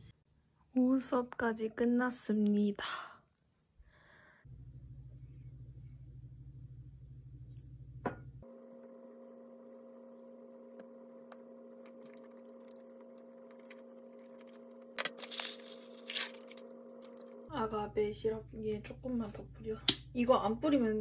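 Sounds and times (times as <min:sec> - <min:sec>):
appliance hum: 0:04.0 - 0:21.0.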